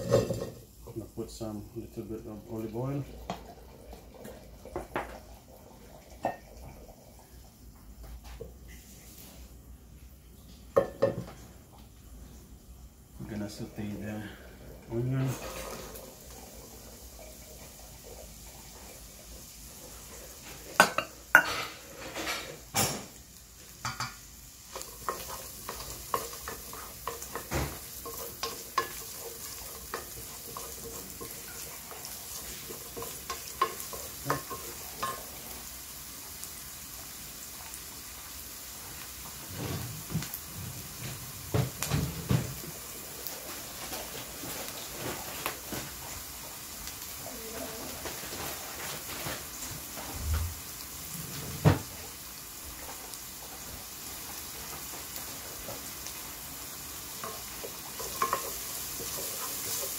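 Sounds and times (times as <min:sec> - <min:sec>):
onion sizzling in frying pan: 0:00.0 - 0:59.9.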